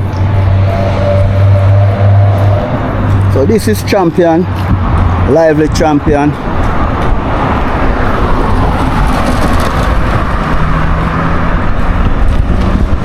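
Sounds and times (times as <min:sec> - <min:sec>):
vehicle passing close by: 0:00.0 - 0:13.0.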